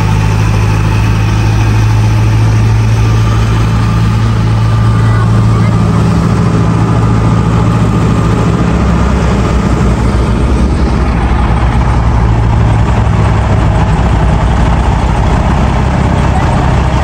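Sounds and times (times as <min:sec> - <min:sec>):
large engine humming: 0:00.0 - 0:17.0.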